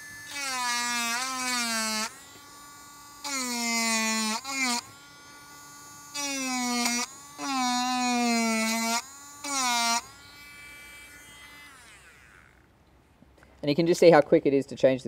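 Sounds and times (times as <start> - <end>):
rotary tool whining: 0.0 - 12.9.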